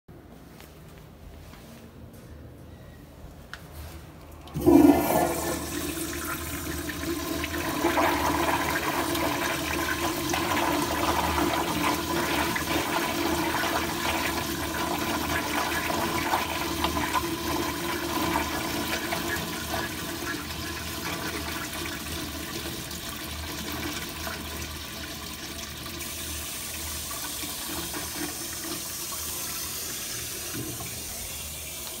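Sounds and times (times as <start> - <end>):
toilet flushing: 4.3 - 32.0.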